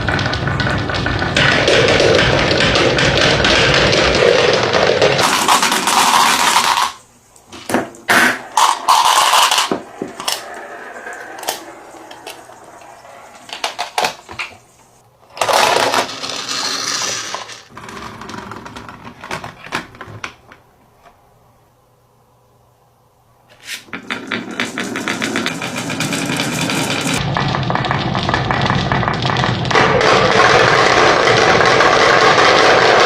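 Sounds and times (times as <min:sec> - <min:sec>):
toy cars rolling down track: 0:00.0 - 0:07.0, 0:08.6 - 0:14.6, 0:15.3 - 0:20.0, 0:23.9 - 0:33.0.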